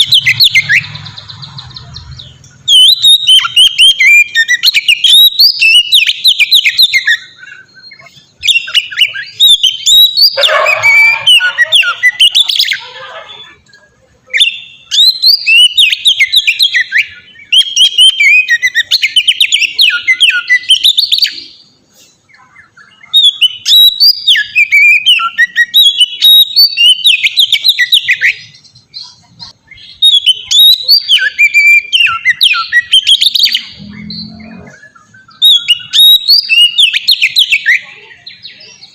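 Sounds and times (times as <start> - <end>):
bird singing whistled chirping notes: 0.0 - 38.9.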